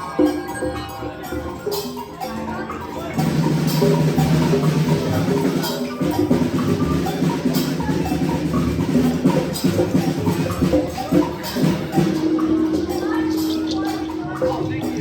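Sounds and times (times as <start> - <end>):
small percussion instruments: 0.0 - 15.0.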